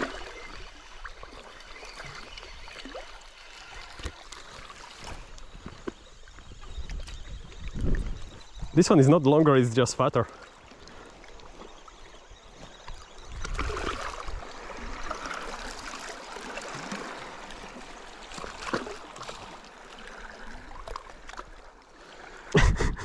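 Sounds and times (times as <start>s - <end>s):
water lapping against rocks: 0.0s - 22.9s.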